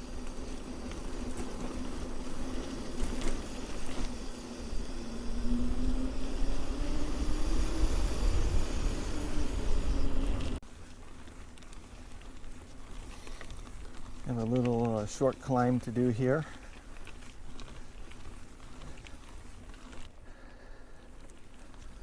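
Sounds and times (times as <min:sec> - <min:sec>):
bike ride noise: 0:00.0 - 0:22.0
droning hum: 0:00.0 - 0:22.0.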